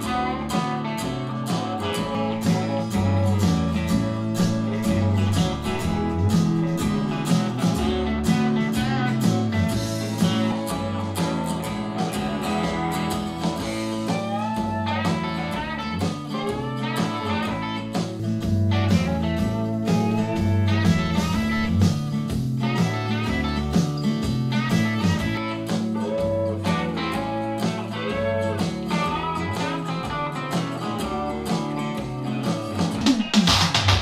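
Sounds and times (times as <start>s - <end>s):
sliding guitar notes: 0.0s - 33.6s
rock song through speaker: 0.0s - 34.0s.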